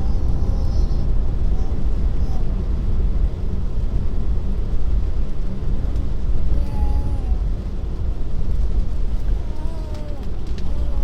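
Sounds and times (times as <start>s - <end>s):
rain on car: 0.0s - 11.0s
tyre and road noise: 0.0s - 11.0s.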